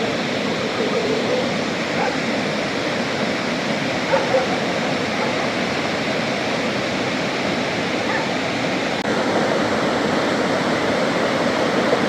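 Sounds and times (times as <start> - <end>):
heavy rush of water: 0.0 - 12.0.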